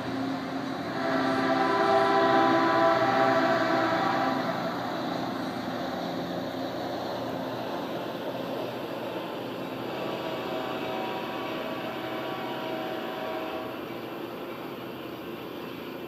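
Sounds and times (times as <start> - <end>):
faint steady tones: 0.0 - 16.0
train rumbling on the track: 0.0 - 16.0.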